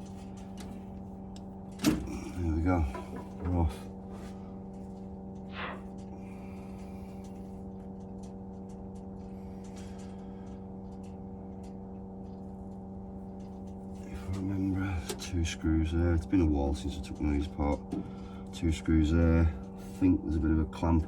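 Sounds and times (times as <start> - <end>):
droning hum of held tones: 0.0 - 21.0.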